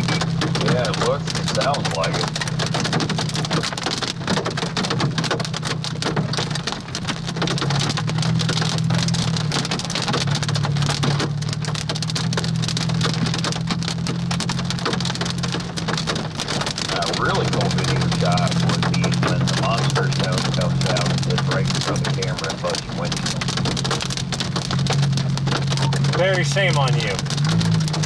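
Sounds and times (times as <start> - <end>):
car hum: 0.0 - 28.0
hail pelting car roof: 0.0 - 28.0.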